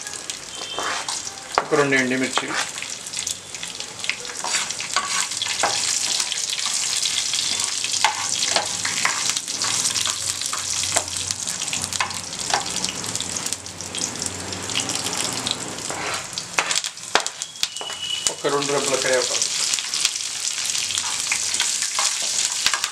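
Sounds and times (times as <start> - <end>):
spices sizzling in hot oil: 0.0 - 22.9.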